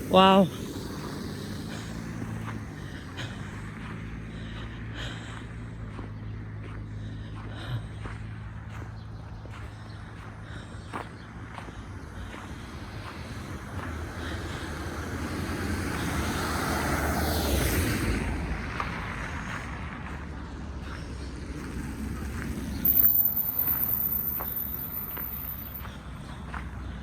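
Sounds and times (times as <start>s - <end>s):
road vehicle passing by: 0.0s - 27.0s.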